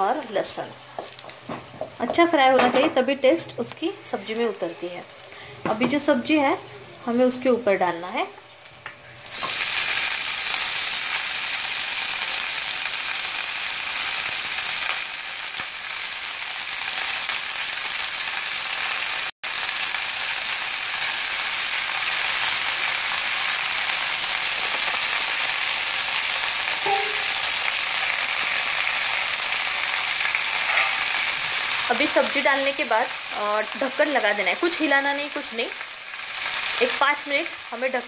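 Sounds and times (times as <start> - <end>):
leaves sizzling in hot oil: 0.0 - 38.0.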